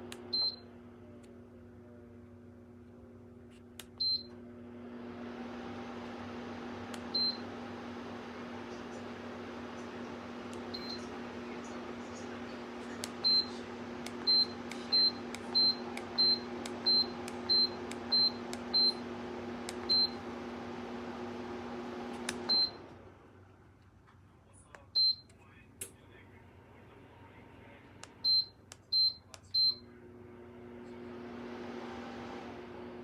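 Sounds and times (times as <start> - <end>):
tower fan humming: 0.0 - 24.0, 24.7 - 33.0.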